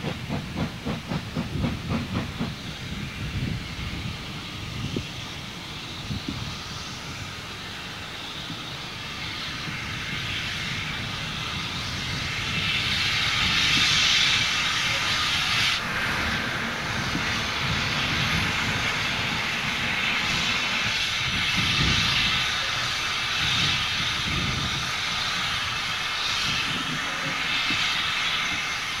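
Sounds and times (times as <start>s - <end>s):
steam hiss: 0.0s - 29.0s
steam locomotive exhaust: 0.0s - 29.0s.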